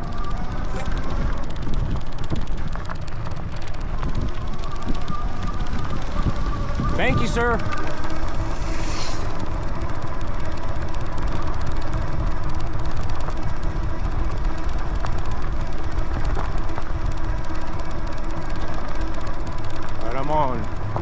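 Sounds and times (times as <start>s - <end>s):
faint motor whine: 0.0s - 21.0s
wind rumble on microphone: 0.0s - 21.0s.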